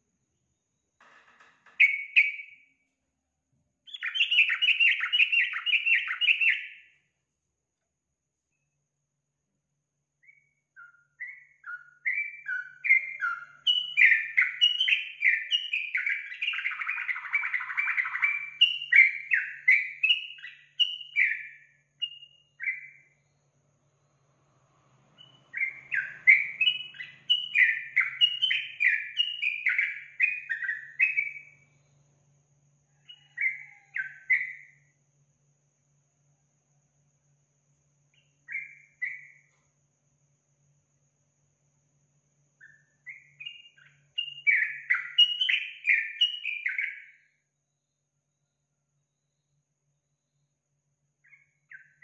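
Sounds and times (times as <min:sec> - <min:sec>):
bird chirping song: 0:00.0 - 0:03.0, 0:03.8 - 0:07.2, 0:10.1 - 0:35.0, 0:37.9 - 0:39.7, 0:41.4 - 0:52.0.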